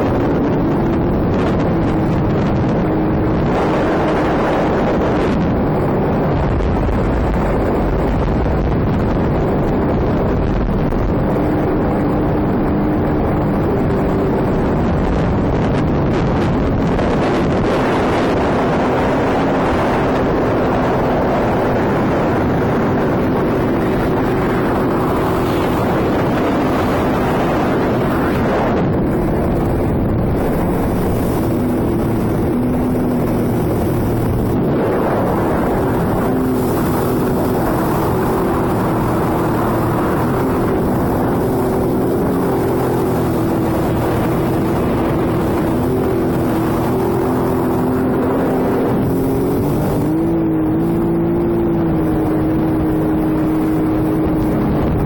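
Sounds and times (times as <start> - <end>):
jet ski engine running: 0.0 - 55.0
water rushing: 0.0 - 55.0
wind on microphone: 0.0 - 55.0.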